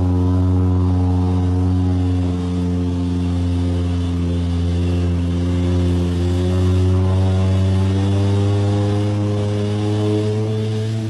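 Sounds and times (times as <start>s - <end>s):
vehicle engine running under load: 0.0s - 11.0s
vehicle wading through river: 0.0s - 11.0s.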